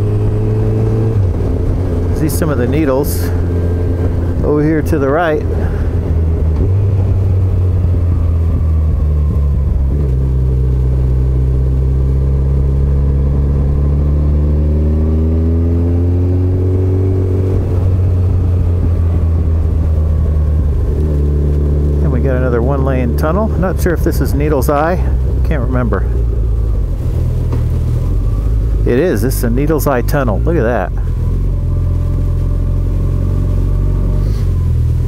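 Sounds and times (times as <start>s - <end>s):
low wind rumble: 0.0s - 35.0s
motorcycle engine running: 0.0s - 35.0s.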